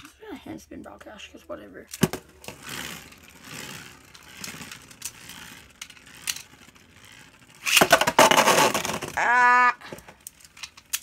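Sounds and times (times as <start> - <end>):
spinning tops whirring and scraping: 1.9 - 11.0.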